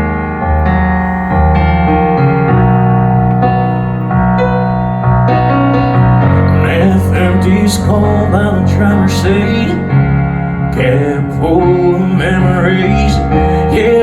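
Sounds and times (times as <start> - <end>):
keyboard playing held chords: 0.0 - 14.0.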